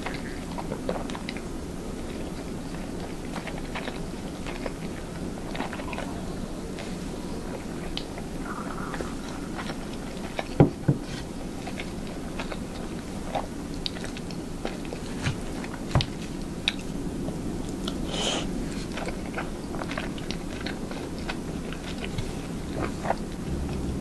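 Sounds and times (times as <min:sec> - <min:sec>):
close chewing and mouth clicks: 0:00.0 - 0:24.0.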